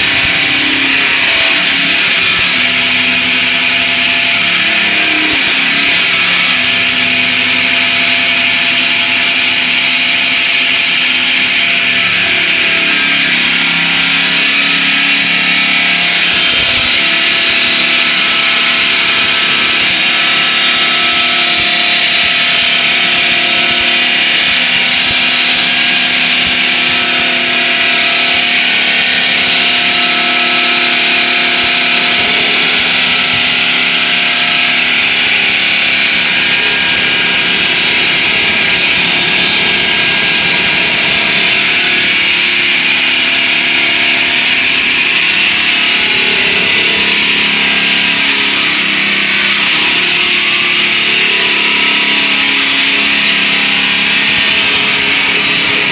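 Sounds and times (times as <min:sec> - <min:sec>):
machine hums: 0:00.0 - 0:55.9.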